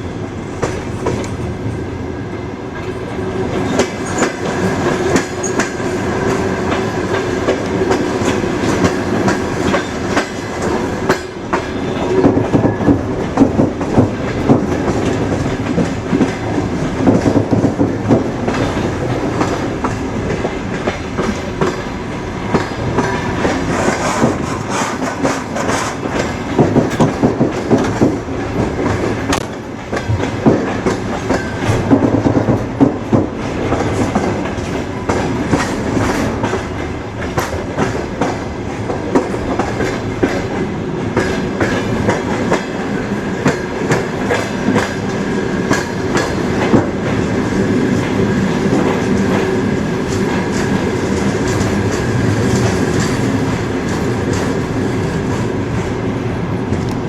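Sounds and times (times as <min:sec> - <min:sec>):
train rolling on rails: 0:00.0 - 0:57.0.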